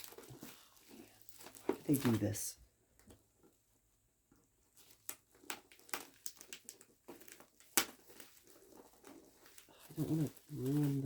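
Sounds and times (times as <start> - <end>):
bubble wrap and tape crackling: 0.0 - 3.6, 4.2 - 11.0.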